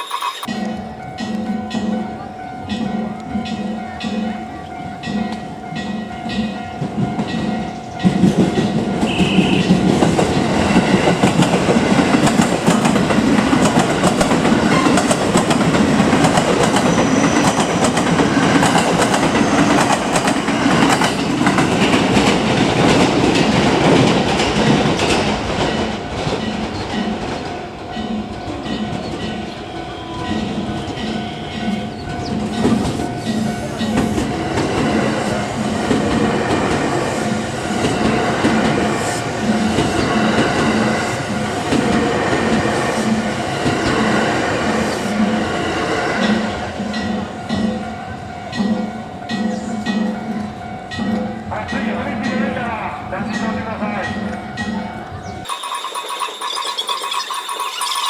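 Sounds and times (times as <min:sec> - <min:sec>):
electric train passing: 0:00.0 - 0:58.0
wheels clacking over rail joints: 0:00.0 - 0:58.0.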